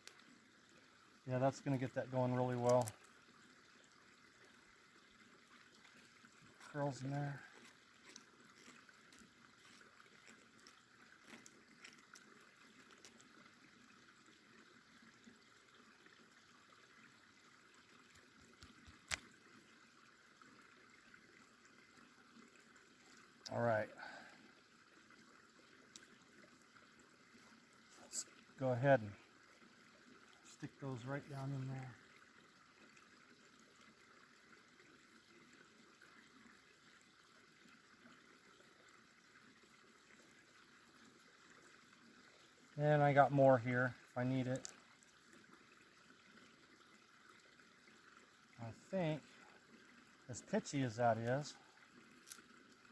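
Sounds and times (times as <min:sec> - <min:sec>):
faint background hiss: 0:00.0 - 0:52.9.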